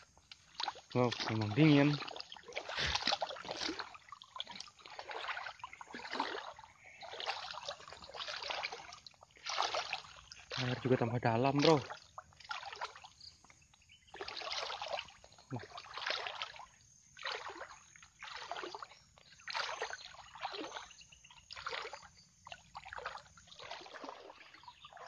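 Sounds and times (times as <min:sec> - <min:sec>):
wading through water sloshing: 0:00.0 - 0:25.0.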